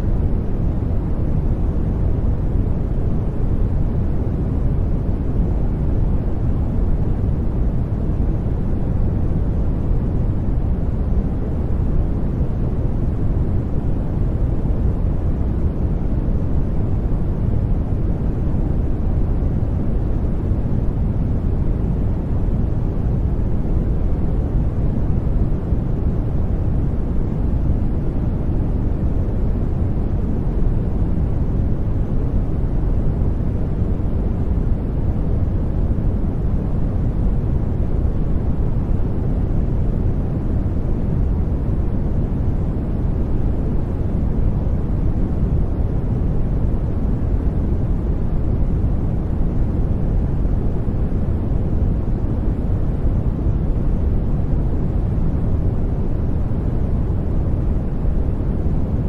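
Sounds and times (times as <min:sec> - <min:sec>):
brown noise rumbling hiss: 0:00.0 - 0:59.0.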